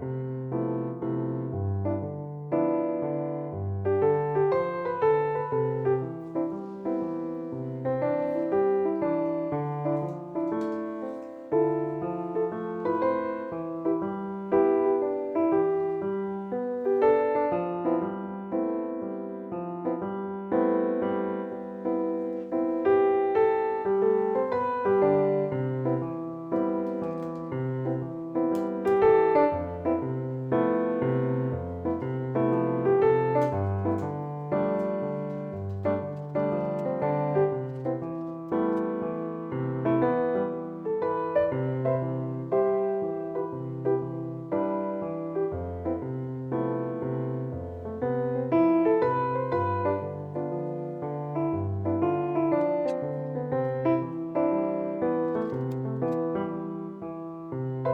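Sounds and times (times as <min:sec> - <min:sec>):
gentle piano music: 0:00.0 - 0:57.9.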